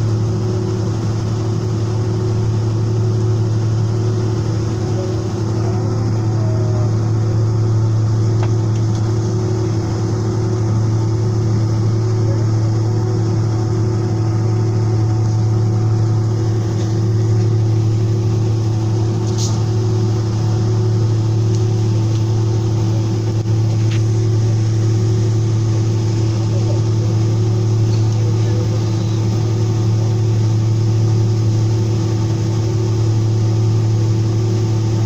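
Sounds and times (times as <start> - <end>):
jet engine drone in cabin: 0.0 - 35.0.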